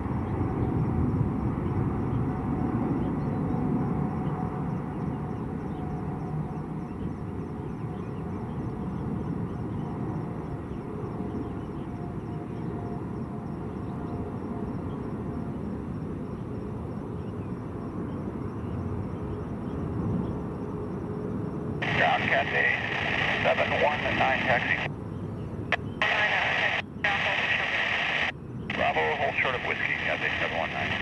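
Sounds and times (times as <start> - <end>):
distant jet engines rumbling: 0.0 - 31.0.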